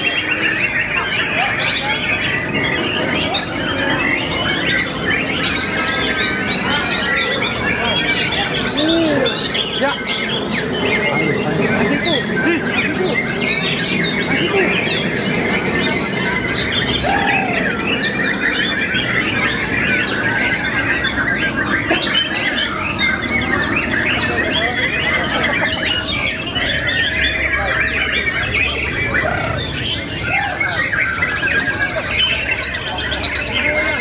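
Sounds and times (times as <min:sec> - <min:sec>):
many birds singing: 0:00.0 - 0:34.0.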